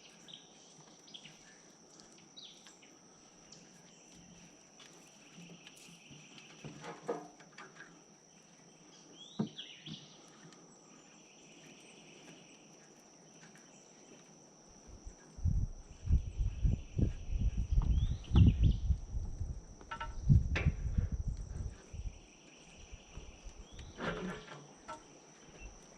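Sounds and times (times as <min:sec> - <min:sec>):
insects buzzing: 0:00.0 - 0:25.9.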